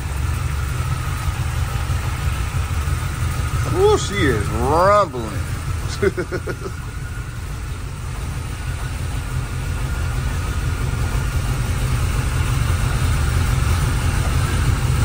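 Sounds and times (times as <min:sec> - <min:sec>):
engine idling deep rumble: 0:00.0 - 0:15.0.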